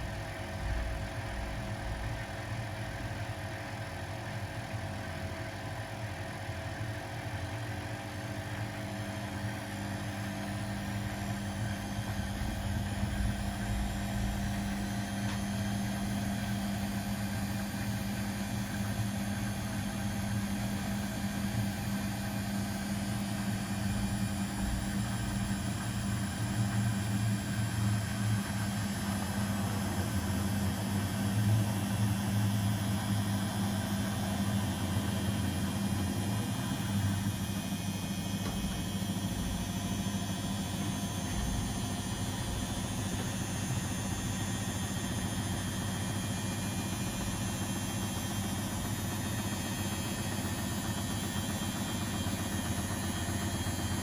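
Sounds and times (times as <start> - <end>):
washing machines humming: 0.0 - 54.0.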